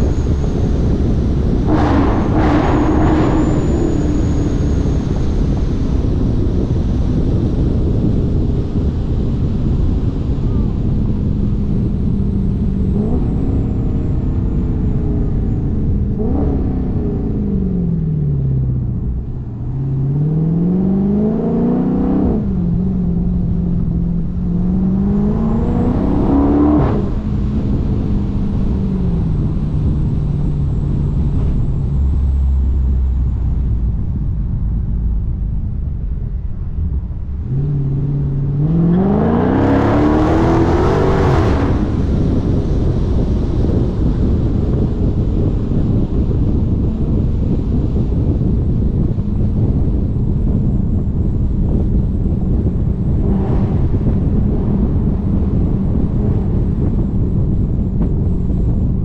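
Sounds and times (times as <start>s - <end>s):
car engine accelerating and shifting: 0.0s - 59.0s.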